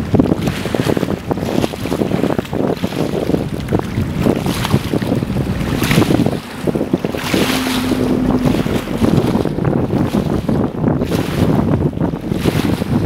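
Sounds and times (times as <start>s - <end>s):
waves lapping over rocks: 0.0s - 13.0s
wind buffeting microphone: 0.0s - 13.0s.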